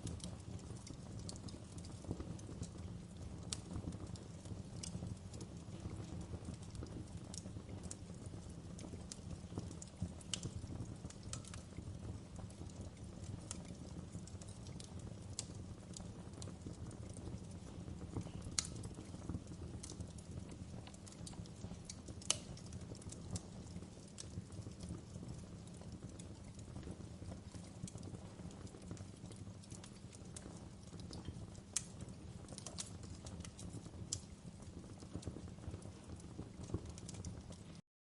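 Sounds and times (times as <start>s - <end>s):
wood fire crackling: 0.0s - 37.8s.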